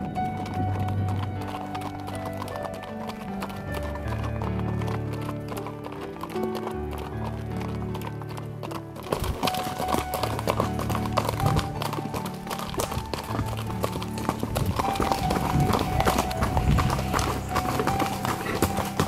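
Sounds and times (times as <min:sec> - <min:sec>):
background music steady tones: 0:00.0 - 0:19.0
horse hooves clip-clopping on dirt: 0:00.0 - 0:19.0.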